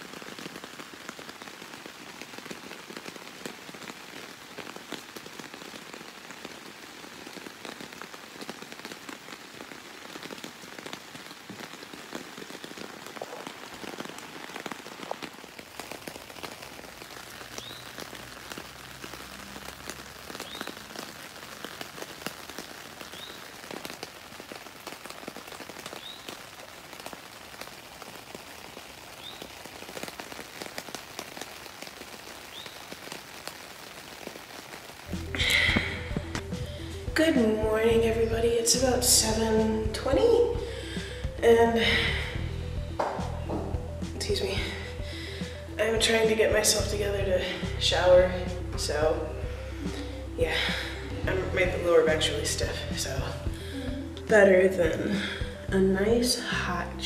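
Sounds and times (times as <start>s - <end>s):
rain pattering on tent fabric: 0.0s - 57.0s.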